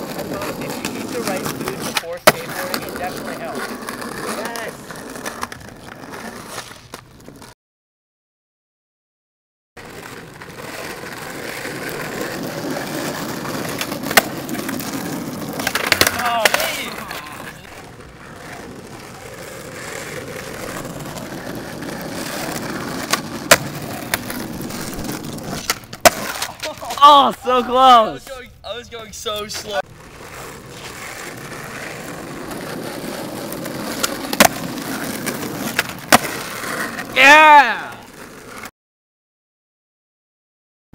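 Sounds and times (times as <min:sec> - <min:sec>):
skateboard clack: 0:00.0 - 0:07.5, 0:09.8 - 0:27.6, 0:29.3 - 0:38.7
skateboard wheels rolling on asphalt: 0:00.0 - 0:07.6, 0:09.8 - 0:38.7.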